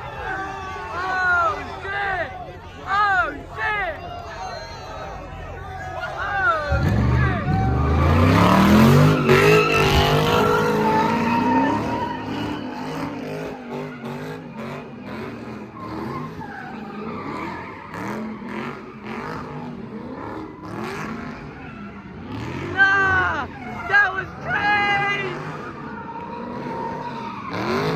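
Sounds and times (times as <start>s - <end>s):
tires squealing: 0.0s - 27.9s
car engine revving: 5.5s - 27.9s.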